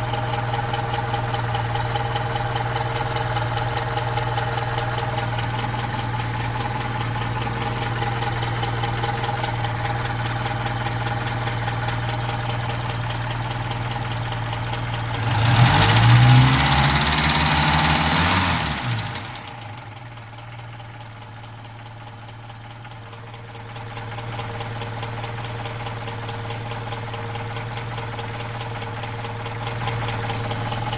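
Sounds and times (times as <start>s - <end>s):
car engine idling with clatter: 0.0s - 30.9s.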